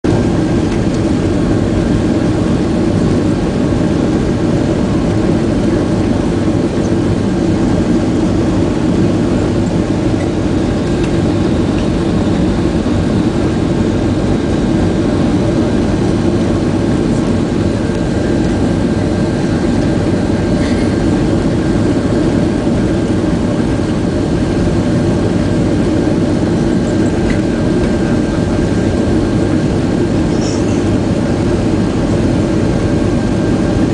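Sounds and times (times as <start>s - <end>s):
jet engine and airflow rumble: 0.0s - 33.9s.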